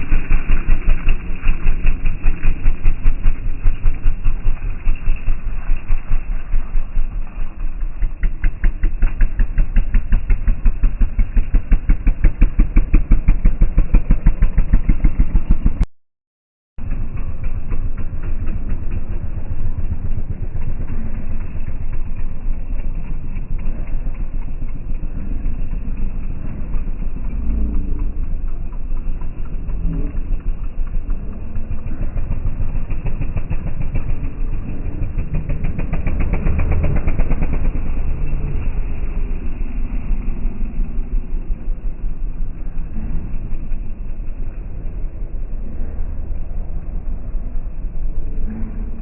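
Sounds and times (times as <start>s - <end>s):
off-road motorbike engine running: 0.0s - 15.9s, 16.8s - 49.0s.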